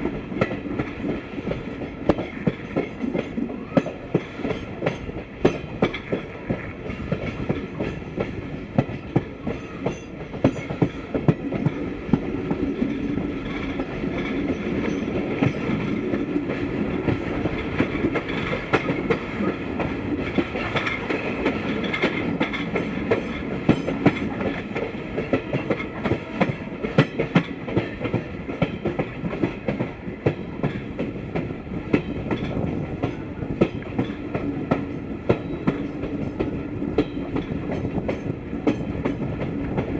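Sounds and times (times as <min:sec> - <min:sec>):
train rumble: 0:00.0 - 0:39.9
wheels clicking over rail joints: 0:00.1 - 0:39.9.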